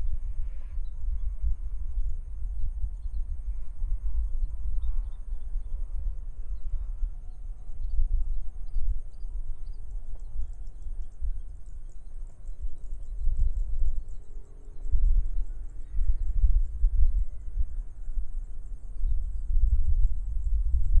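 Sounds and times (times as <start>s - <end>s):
insect drone: 0.0s - 21.0s
wind buffeting microphone: 0.0s - 21.0s.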